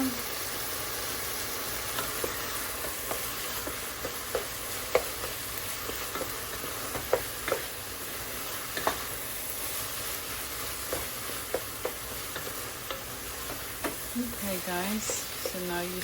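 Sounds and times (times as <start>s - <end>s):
meat sizzling in a pot: 0.0s - 16.0s.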